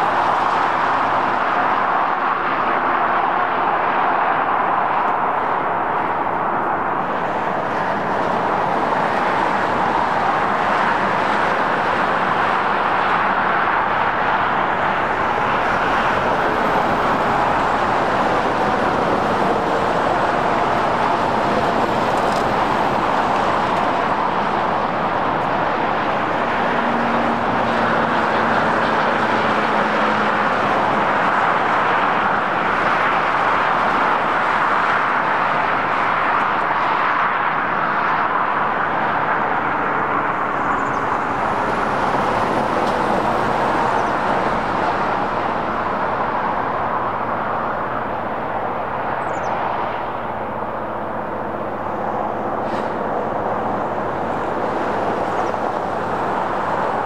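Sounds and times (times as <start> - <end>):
snow plow blowing snow: 0.0 - 48.7, 50.5 - 57.0.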